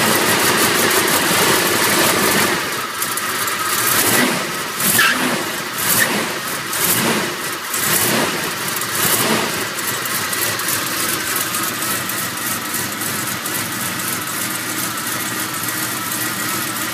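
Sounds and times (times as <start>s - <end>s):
engine revving and idling: 0.0s - 16.9s.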